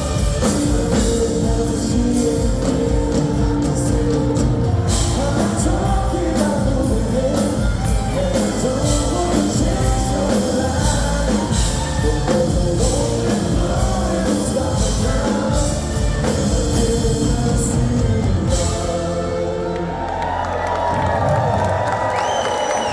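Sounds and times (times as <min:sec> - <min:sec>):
lead singer singing: 0:00.0 - 0:20.5
live band playing: 0:00.0 - 0:22.1
drums: 0:00.0 - 0:22.9.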